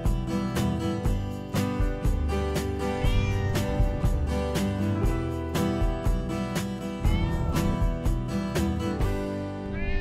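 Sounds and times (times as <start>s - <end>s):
background music with guitar and beat: 0.0s - 10.0s.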